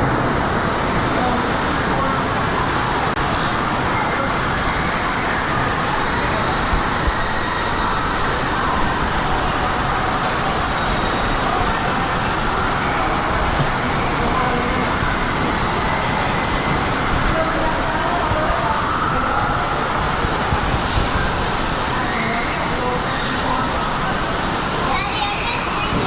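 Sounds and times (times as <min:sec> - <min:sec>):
constant rushing noise: 0:00.0 - 0:26.0
din of many voices: 0:00.0 - 0:26.0.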